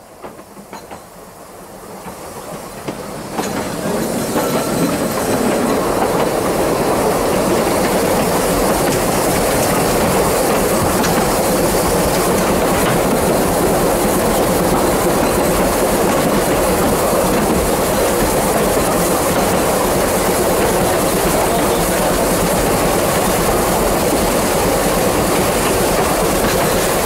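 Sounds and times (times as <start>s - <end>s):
train wheels rattling on rails: 0.0s - 27.0s.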